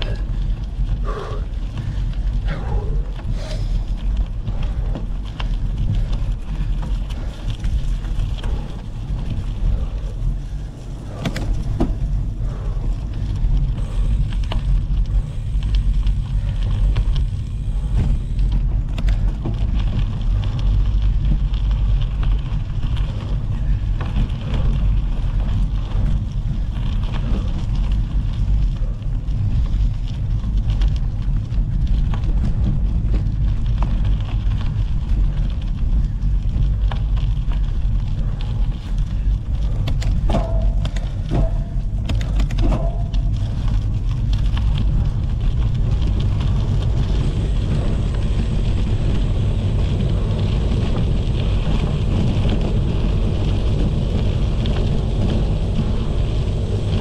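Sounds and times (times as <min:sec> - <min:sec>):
bike tyres crunching on gravel: 0:00.0 - 0:57.0
wind buffeting microphone: 0:00.0 - 0:57.0.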